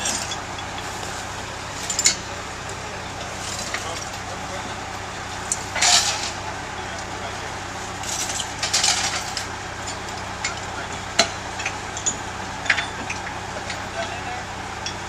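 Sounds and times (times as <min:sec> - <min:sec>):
metal clanks and knocks: 0:00.0 - 0:04.8, 0:05.4 - 0:06.5, 0:08.0 - 0:15.0
low engine hum: 0:00.0 - 0:15.0.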